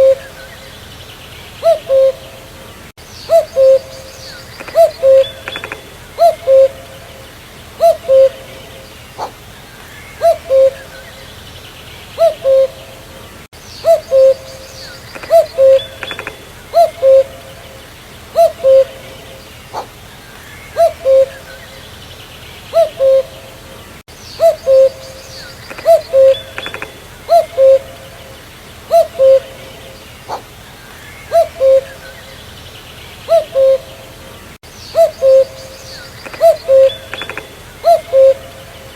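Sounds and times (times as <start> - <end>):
cuckoo calling: 0.0 - 0.8, 1.6 - 11.4, 12.1 - 22.0, 22.6 - 32.6, 33.2 - 38.9
faint bird chirps: 1.6 - 34.1, 34.7 - 38.9.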